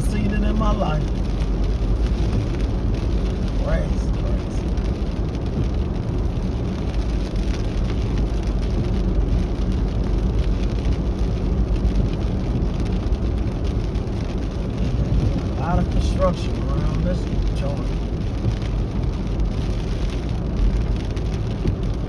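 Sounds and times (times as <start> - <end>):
car engine low rumble: 0.0 - 22.0
heavy rain pattering on a car: 0.0 - 22.0.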